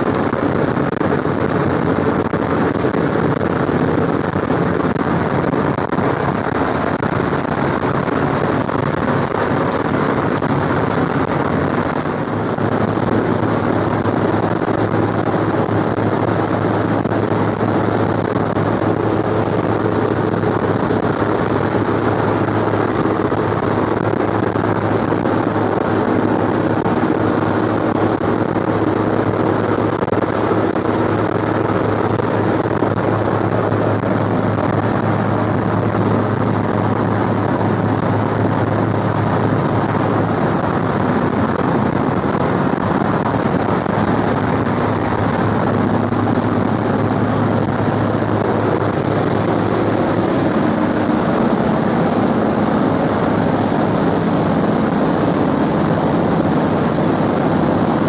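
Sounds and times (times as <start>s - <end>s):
aircraft engines droning: 0.0s - 58.0s
constant low hum: 0.0s - 58.0s.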